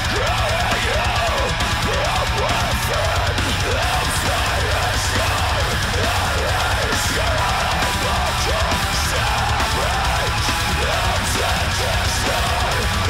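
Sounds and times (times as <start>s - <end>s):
music with driving drum beat: 0.0s - 13.0s.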